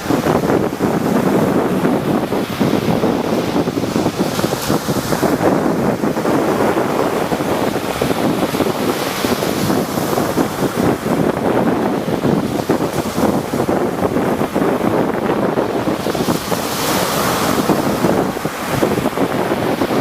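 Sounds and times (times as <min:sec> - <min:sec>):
rough sea waves breaking: 0:00.0 - 0:20.0
wind buffeting microphone: 0:00.0 - 0:20.0.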